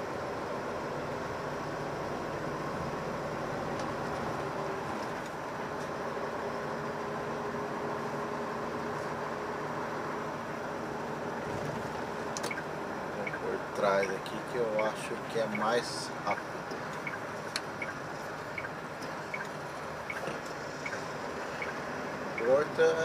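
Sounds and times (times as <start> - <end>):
truck diesel engine running: 0.0 - 23.0
tyre and road noise: 0.0 - 23.0.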